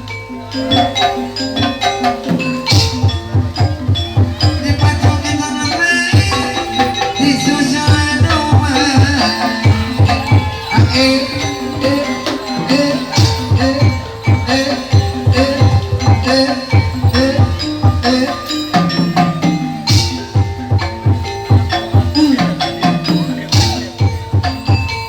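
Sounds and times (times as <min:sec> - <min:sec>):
fast hand drumming: 0:00.0 - 0:25.0
ringing metallophone tones: 0:00.0 - 0:25.0.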